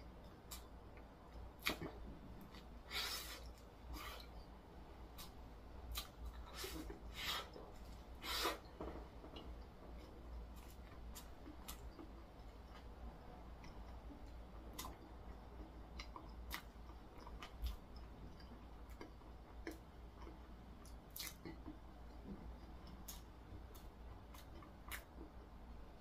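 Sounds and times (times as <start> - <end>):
person chewing food: 0.5 - 4.5, 5.1 - 25.5.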